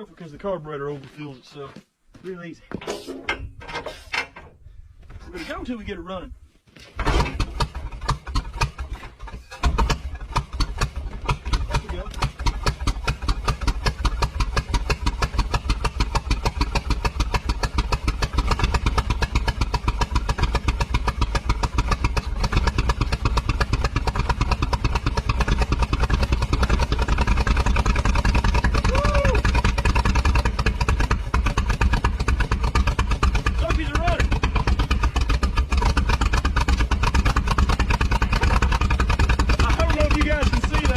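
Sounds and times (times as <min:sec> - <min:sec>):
old car engine running: 0:07.0 - 0:40.9.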